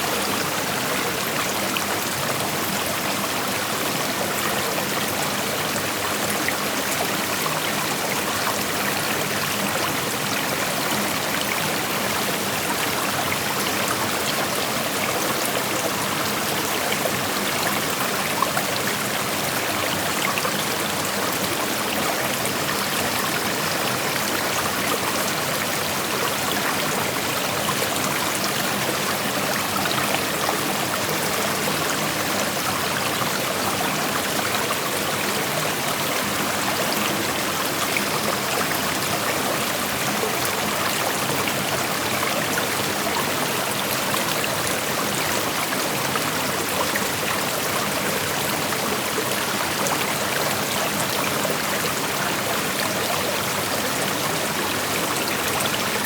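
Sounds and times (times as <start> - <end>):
creek flowing over rocks: 0.0 - 56.0.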